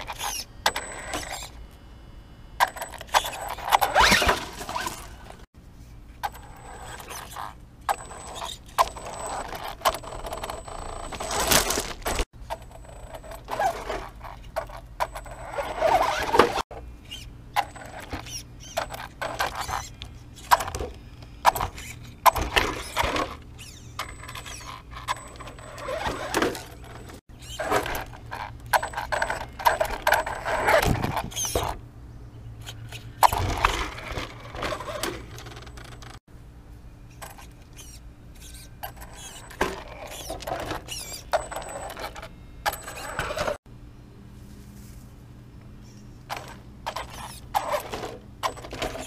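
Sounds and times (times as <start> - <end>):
toy truck tyres scrabbling on rock: 2.6 - 5.5, 6.3 - 31.8, 32.6 - 36.2, 37.2 - 43.6, 46.3 - 49.0.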